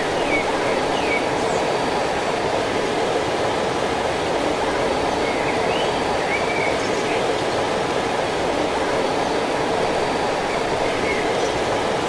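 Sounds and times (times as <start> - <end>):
rush of running water: 0.0 - 12.0.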